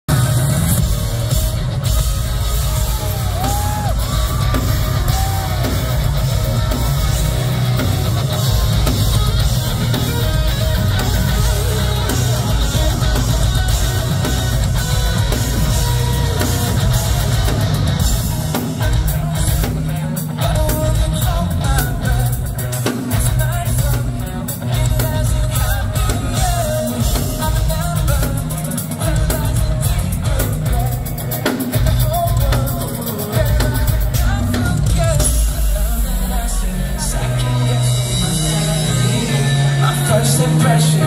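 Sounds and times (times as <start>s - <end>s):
bass guitar: 0.0s - 41.0s
drum kit: 0.0s - 41.0s
electric guitars: 0.1s - 41.0s
person singing: 0.1s - 41.0s.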